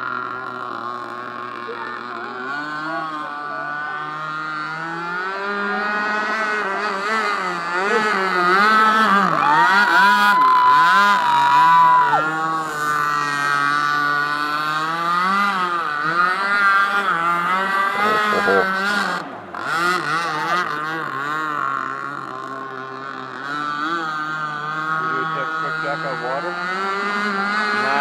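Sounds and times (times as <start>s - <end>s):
rc boat two-stroke engine: 0.0s - 28.0s.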